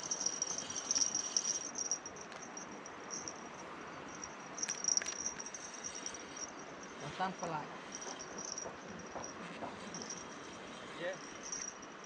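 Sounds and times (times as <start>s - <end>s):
insects buzzing: 0.0s - 11.8s.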